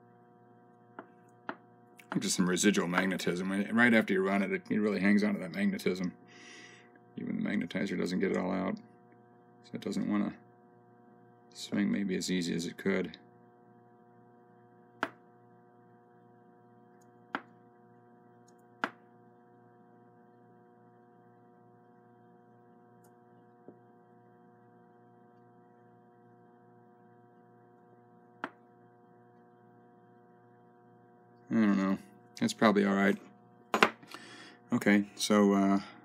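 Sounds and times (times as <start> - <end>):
faint electrical hum: 0.0 - 36.0.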